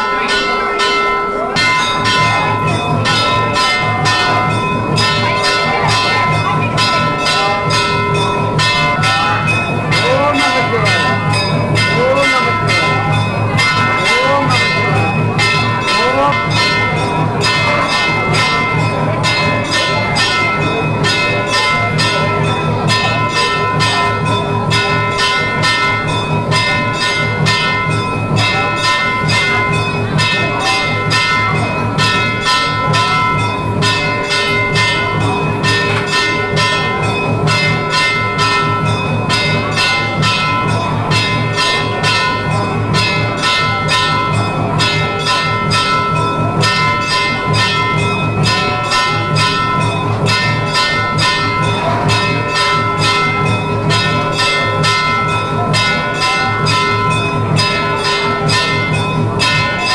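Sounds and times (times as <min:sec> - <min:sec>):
temple bells ringing: 0:00.0 - 0:59.9.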